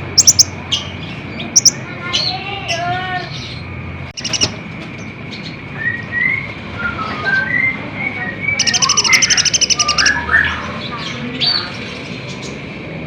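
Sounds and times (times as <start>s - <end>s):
bird chirping and trilling: 0.0s - 12.6s.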